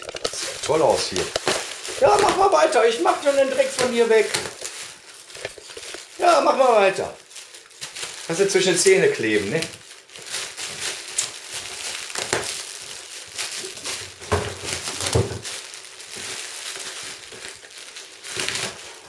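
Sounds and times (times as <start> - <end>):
plastic film crinkling: 0.0 - 19.0.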